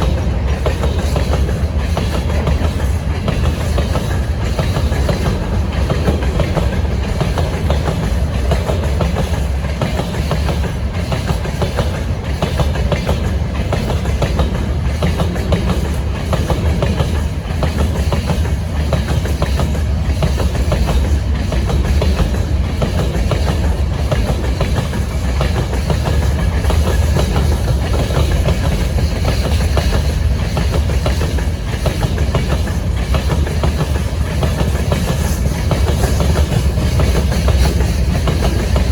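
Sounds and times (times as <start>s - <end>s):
train wheels clattering over rail joints: 0.0s - 38.9s.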